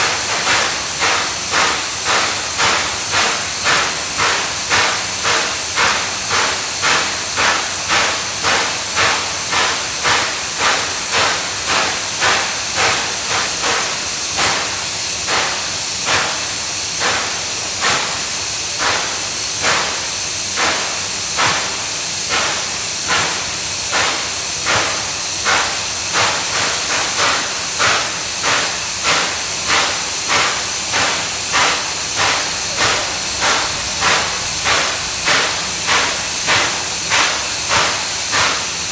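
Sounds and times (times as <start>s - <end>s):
continuous steam hiss: 0.0s - 38.9s
steam locomotive puffing: 0.0s - 38.9s.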